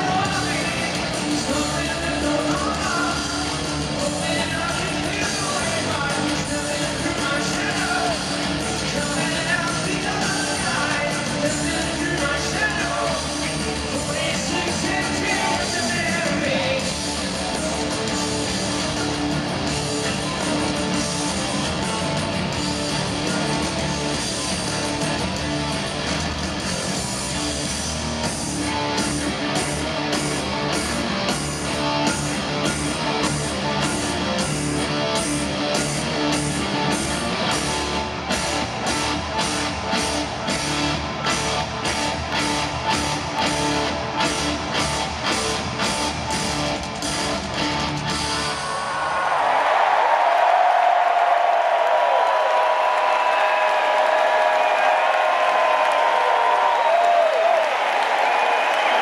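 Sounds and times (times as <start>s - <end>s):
drums with cymbal beat: 0.0s - 48.7s
electric guitar and bass: 0.0s - 48.8s.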